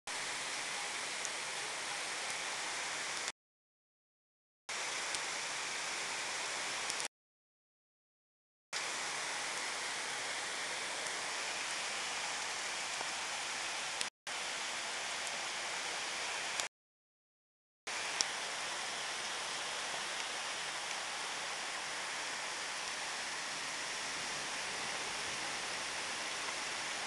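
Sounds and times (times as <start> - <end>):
rain falling: 0.1 - 3.3, 4.7 - 7.1, 8.8 - 16.7, 17.9 - 27.0.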